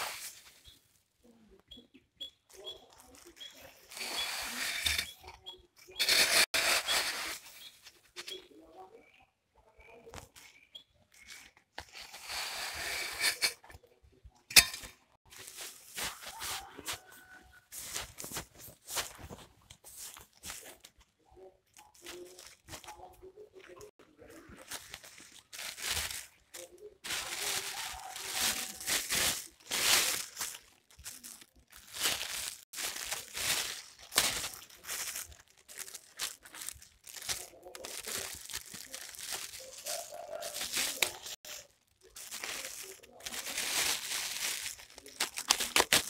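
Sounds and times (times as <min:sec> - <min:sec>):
plastic sacking rustling: 0:00.0 - 0:01.0, 0:02.5 - 0:08.3, 0:15.2 - 0:46.0.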